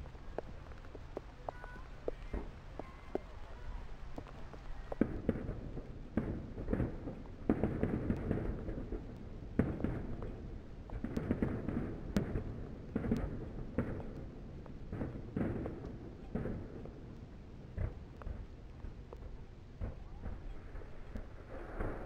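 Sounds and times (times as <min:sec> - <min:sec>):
firework crackling: 0:00.0 - 0:22.0.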